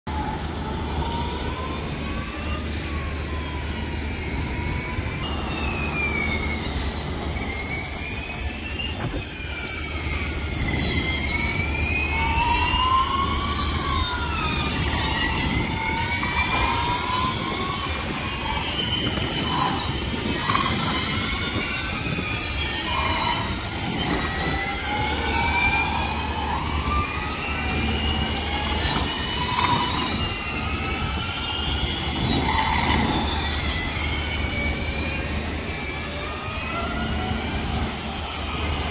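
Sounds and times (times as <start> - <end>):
electric race cars whining: 0.1 - 38.9.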